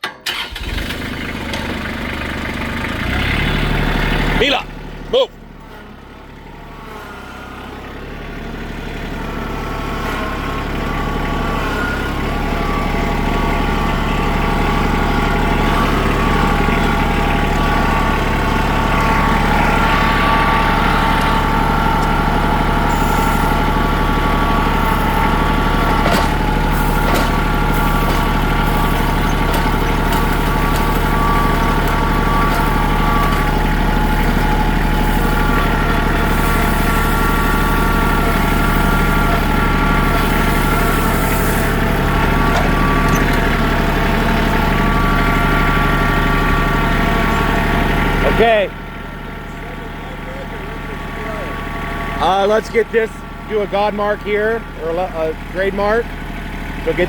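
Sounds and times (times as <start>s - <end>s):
heavy machine engine running: 0.2s - 57.0s.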